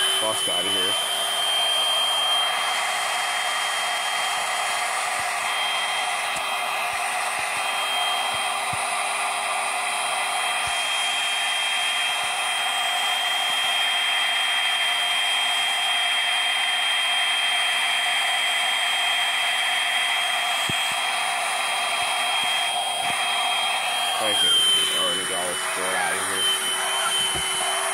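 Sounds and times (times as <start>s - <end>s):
cordless vacuum running over carpet: 0.0s - 27.9s.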